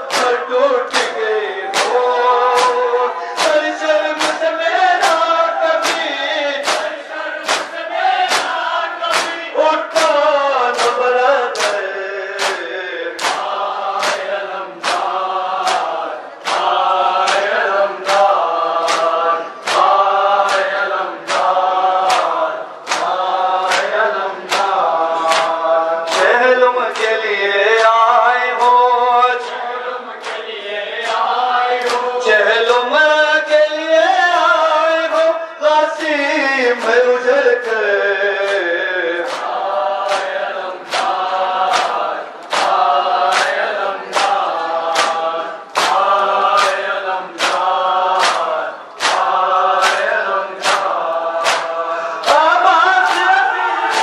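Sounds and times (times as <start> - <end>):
men chanting in chorus: 0.0 - 54.0
rhythmic chest-beating slaps: 0.0 - 54.0.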